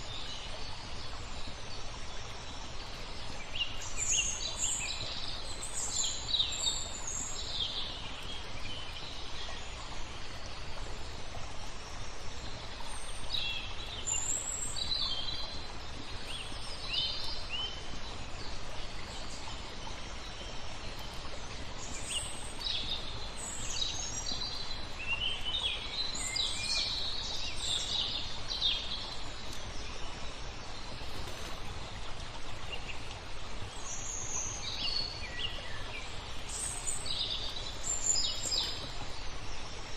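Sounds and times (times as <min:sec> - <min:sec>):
flowing water: 0:00.0 - 0:39.9
songbirds chirping: 0:00.0 - 0:39.9.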